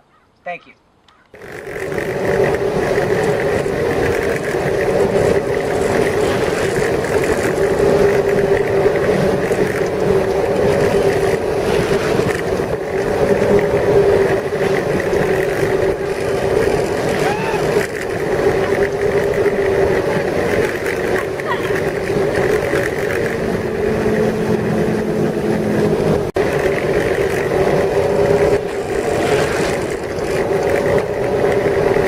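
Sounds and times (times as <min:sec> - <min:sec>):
broad rushing noise: 0:00.9 - 0:32.0
boat engine running: 0:01.3 - 0:32.0.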